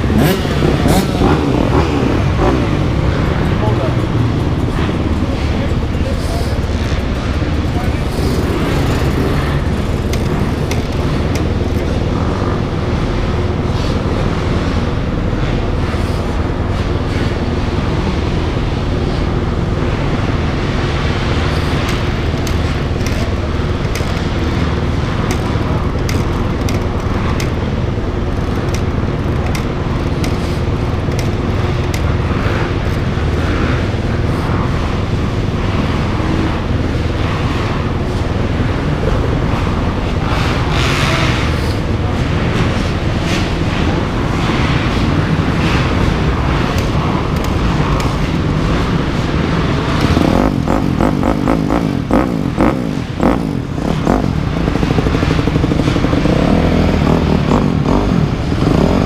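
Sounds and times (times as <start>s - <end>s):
motorcycle engine running: 0.0s - 59.0s
rushing noise: 0.0s - 59.0s.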